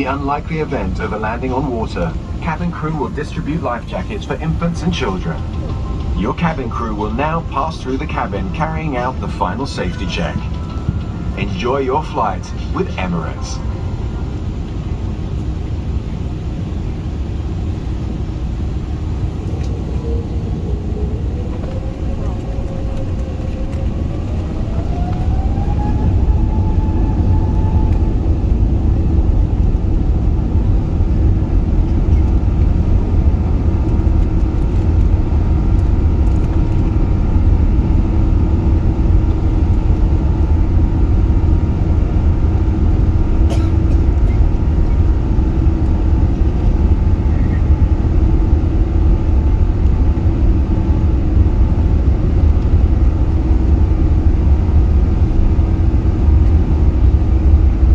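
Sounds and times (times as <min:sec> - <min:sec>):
jet engines whining and rumbling: 0:00.0 - 0:57.9.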